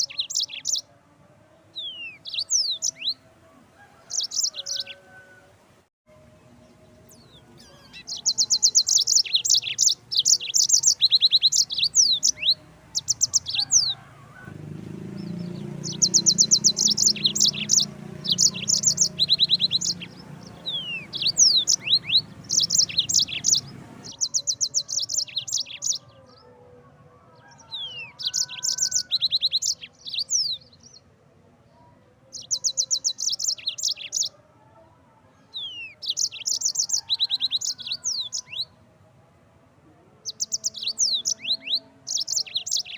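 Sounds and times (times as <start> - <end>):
canary singing trills: 0.0 - 0.9, 1.6 - 3.3, 3.9 - 5.4, 6.6 - 26.5, 27.3 - 31.1, 32.2 - 34.5, 35.4 - 38.8, 40.2 - 42.9.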